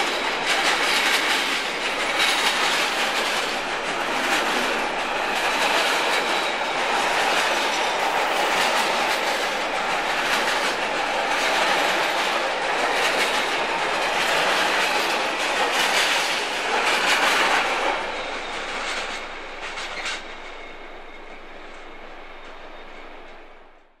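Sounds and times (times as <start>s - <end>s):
receding train rumble: 0.0s - 24.0s
train wheels rushing on rails: 0.0s - 24.0s.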